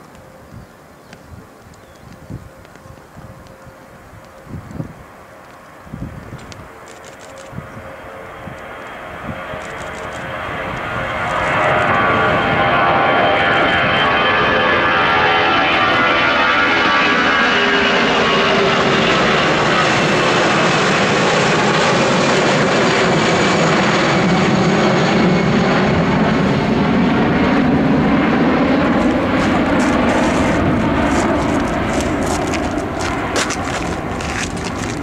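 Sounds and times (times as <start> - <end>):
jet airliner engines roaring: 0.0 - 35.0.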